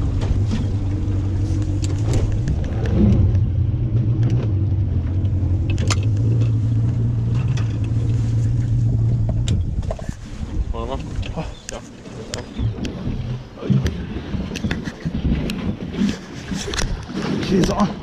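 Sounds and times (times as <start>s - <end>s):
motorboat engine drone: 0.0s - 17.2s.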